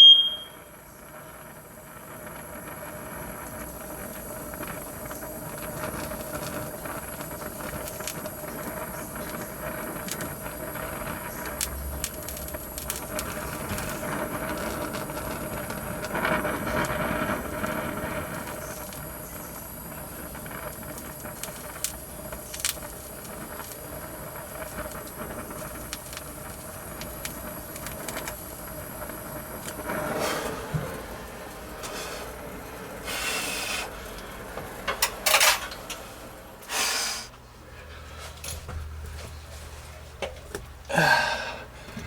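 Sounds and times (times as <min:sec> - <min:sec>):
torch flame hissing: 0:01.0 - 0:34.2, 0:36.5 - 0:37.4.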